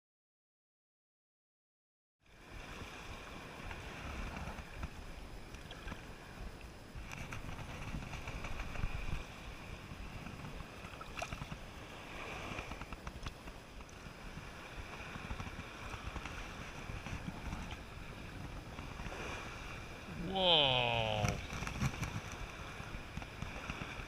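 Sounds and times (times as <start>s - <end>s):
surf washing on beach: 2.3s - 24.0s
wind on microphone: 2.4s - 24.0s.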